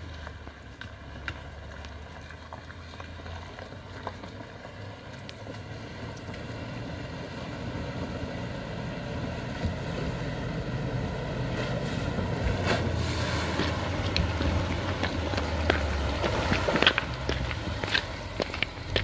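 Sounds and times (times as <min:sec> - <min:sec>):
suv engine running: 0:00.0 - 0:19.0
water sloshing around wheels: 0:01.2 - 0:19.0.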